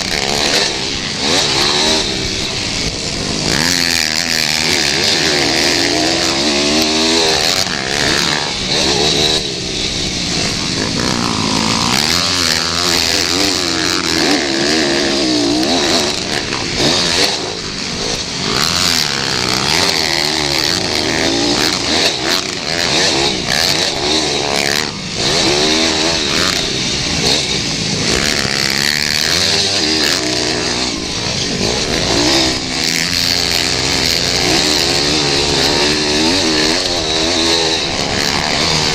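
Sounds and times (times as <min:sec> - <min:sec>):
pit bike engines racing: 0:00.0 - 0:38.9.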